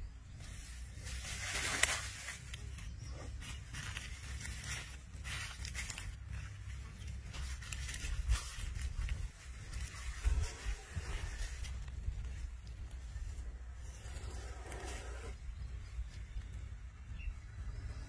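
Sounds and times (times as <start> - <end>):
dry leaves and grass rustling: 0.0 - 18.0
steady low rumble: 0.0 - 18.0.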